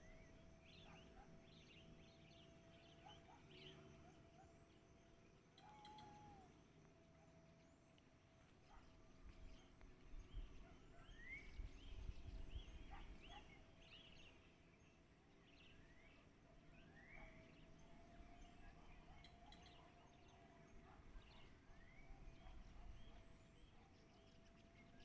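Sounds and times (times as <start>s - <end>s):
bird chirps: 0.0s - 6.6s, 8.7s - 14.4s, 15.4s - 25.0s.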